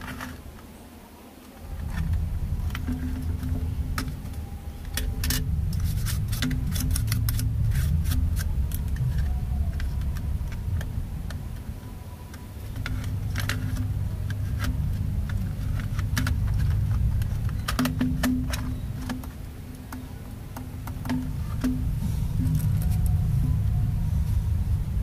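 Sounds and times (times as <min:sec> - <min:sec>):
laptop parts clicking and clattering: 0:00.0 - 0:00.7, 0:01.8 - 0:11.7, 0:12.3 - 0:23.2
low rumble: 0:01.6 - 0:25.0.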